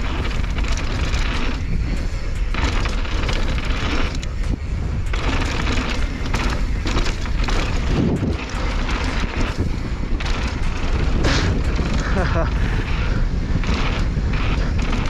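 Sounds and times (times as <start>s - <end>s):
tyre and trail rumble: 0.0s - 15.0s
wind buffeting microphone: 0.0s - 15.0s.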